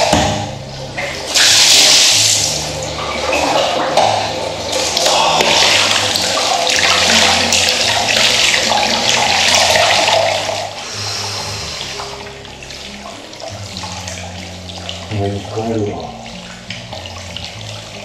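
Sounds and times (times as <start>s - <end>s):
soft background music: 0.0s - 18.0s
water splashing in a bath: 0.0s - 18.0s.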